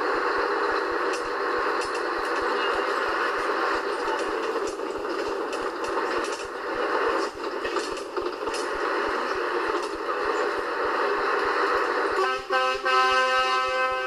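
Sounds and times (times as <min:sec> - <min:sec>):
road noise: 0:00.0 - 0:13.5.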